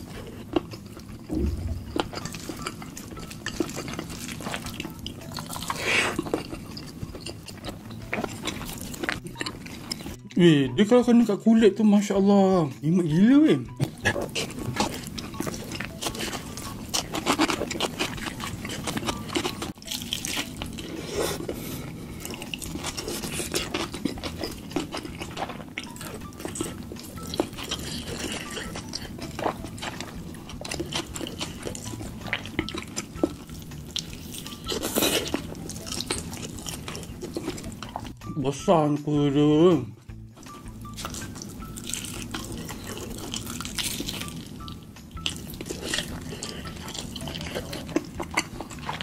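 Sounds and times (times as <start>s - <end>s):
wet chewing and lip-smacking: 0.0s - 10.2s, 13.8s - 38.2s, 40.1s - 49.0s.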